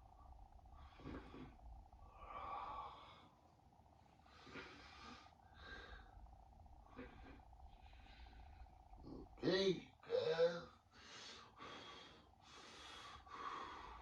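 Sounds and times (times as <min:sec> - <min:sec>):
man breathing heavily: 0:00.7 - 0:09.1, 0:10.8 - 0:14.0.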